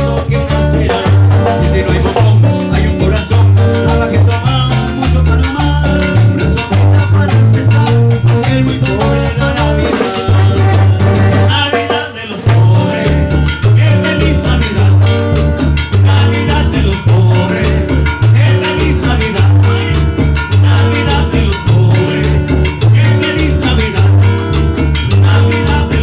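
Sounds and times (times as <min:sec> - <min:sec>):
latin dance band playing: 0:00.0 - 0:26.0.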